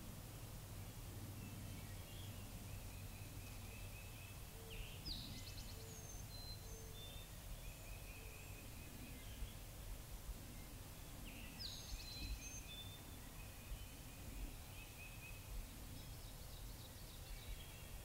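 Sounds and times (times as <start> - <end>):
faint songbirds calling: 0.0 - 18.0.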